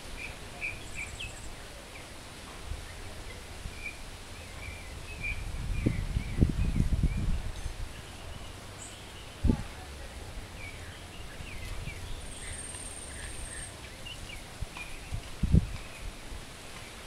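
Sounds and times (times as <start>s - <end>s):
small birds chirping: 0.1s - 2.2s, 2.8s - 17.0s.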